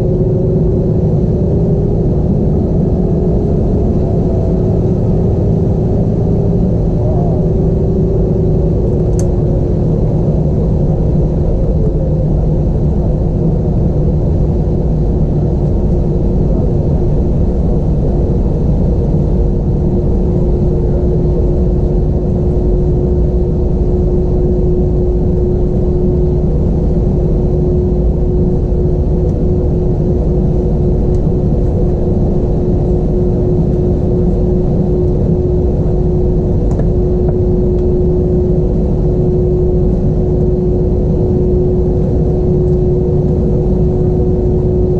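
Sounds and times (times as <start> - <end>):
aircraft cabin rumble: 0.0 - 44.9.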